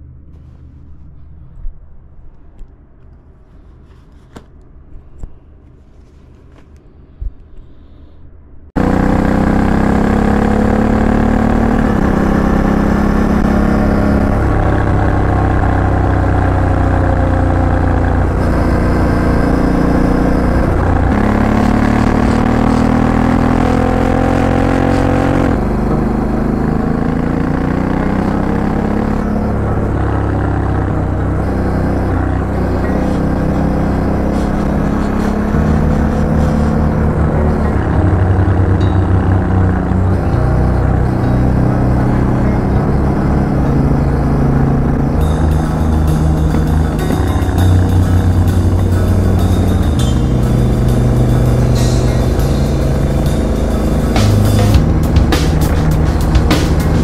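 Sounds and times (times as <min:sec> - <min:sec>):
motorcycle engine running hard: 0:08.8 - 0:57.0.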